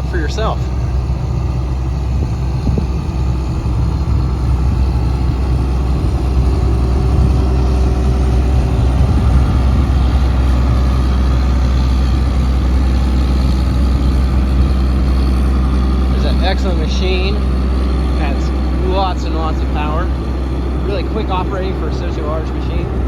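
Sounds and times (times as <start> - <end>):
excavator diesel engine droning: 0.0 - 23.0.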